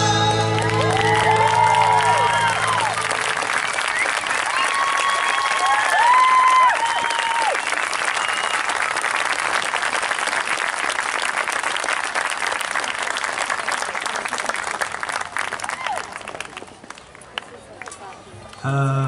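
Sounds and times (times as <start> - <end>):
audience applauding: 0.3 - 17.9.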